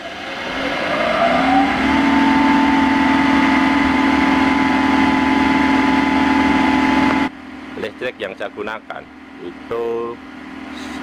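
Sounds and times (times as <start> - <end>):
air blower motor whine: 0.0 - 11.0.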